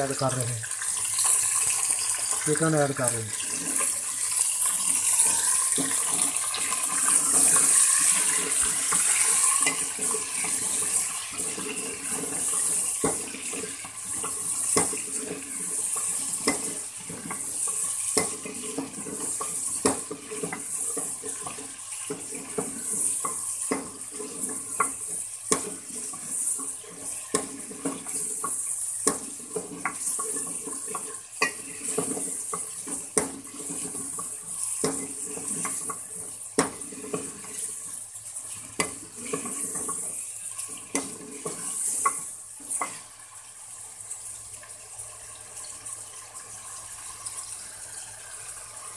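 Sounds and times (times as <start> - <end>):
chicken sizzling in hot oil: 0.0 - 48.9
spatula scraping pot: 1.3 - 43.1.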